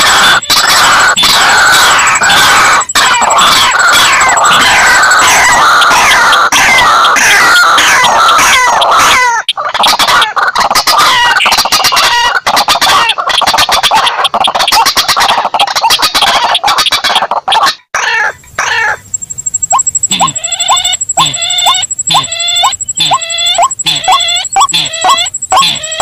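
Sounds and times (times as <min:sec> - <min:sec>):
fast clicking clucking bird notes: 0:00.0 - 0:17.9, 0:18.6 - 0:26.0
harsh bird calls: 0:00.0 - 0:26.0.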